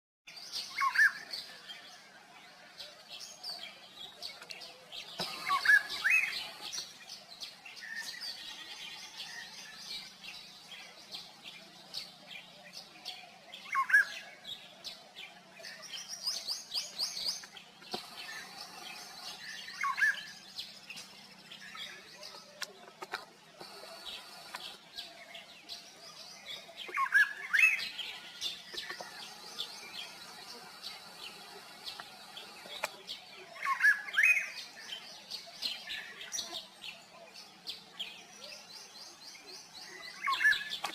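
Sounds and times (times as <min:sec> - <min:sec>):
birds chirping: 0:00.3 - 0:40.9.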